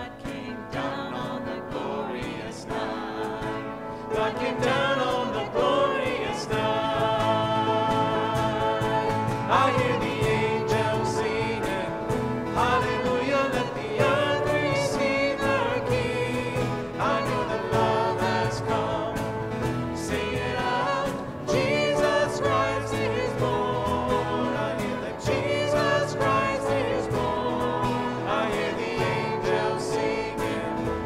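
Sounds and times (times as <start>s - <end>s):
acoustic guitar: 0.0s - 31.0s
piano: 0.0s - 31.0s
upright bass: 0.0s - 31.0s
voices singing: 0.0s - 31.0s.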